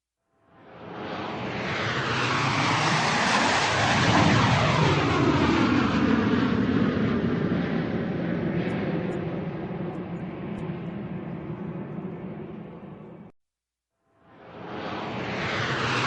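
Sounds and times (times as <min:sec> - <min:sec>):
airplane flying overhead: 0:00.4 - 0:13.3, 0:14.2 - 0:16.0.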